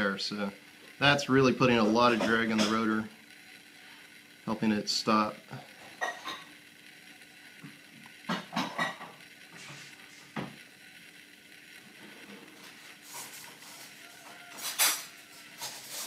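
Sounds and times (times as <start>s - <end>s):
straw rubbing on spinning rotor: 0.6s - 16.0s.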